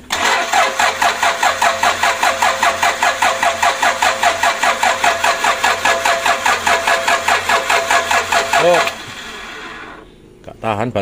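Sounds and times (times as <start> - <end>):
diesel engine cranking on starter: 0.0 - 10.1.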